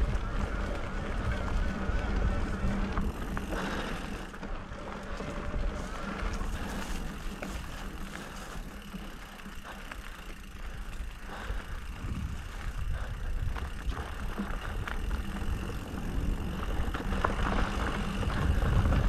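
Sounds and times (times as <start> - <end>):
bike rattling over bumps: 0.0 - 19.0
tyres on dirt trail: 0.0 - 19.0.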